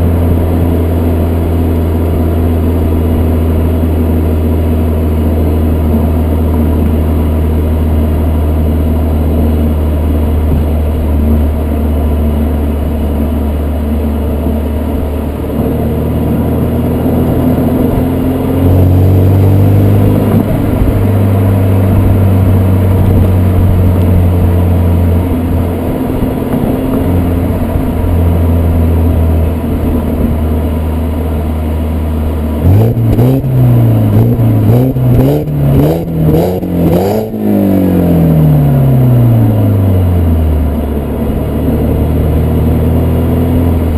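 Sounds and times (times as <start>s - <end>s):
car engine running and revving: 0.0s - 43.9s.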